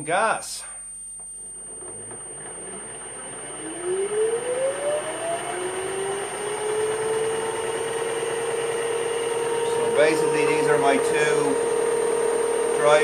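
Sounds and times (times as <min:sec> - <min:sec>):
electric motor whine: 0:01.2 - 0:13.0
gear and shaft running noise: 0:01.4 - 0:13.0.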